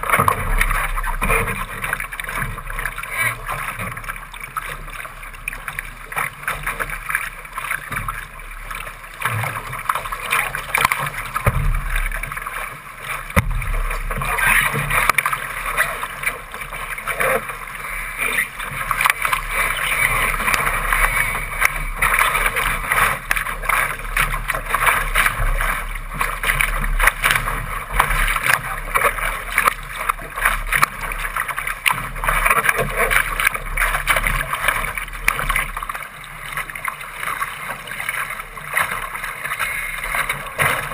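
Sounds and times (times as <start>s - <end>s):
water rushing along boat hull: 0.0s - 40.9s.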